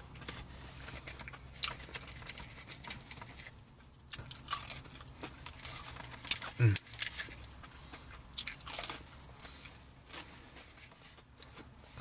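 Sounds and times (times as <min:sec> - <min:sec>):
crunching fried coating: 0:00.0 - 0:12.0
soft chewing: 0:00.0 - 0:12.0.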